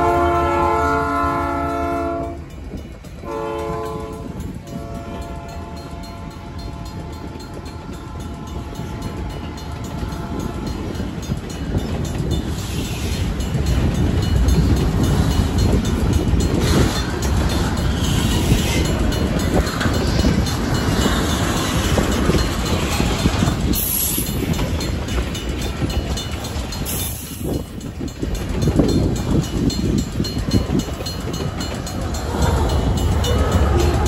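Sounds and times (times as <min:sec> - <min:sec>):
freight train rumbling: 0:00.0 - 0:34.0
wheels clattering over rail joints: 0:01.3 - 0:34.0.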